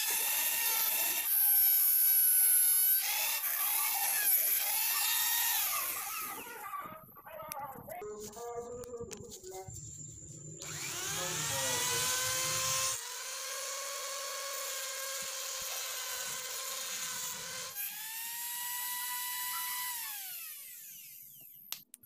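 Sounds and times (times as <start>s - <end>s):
rotary grinder whining: 0.0s - 7.1s, 10.6s - 21.7s.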